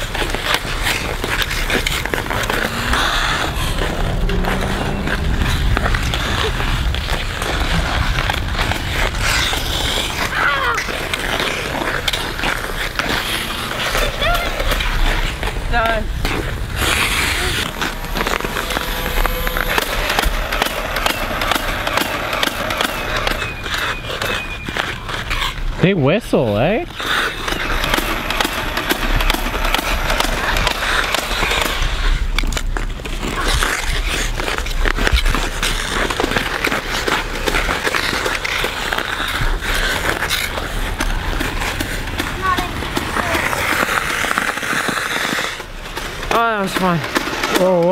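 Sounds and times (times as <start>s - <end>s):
ice skate blades scraping: 0.0s - 47.9s.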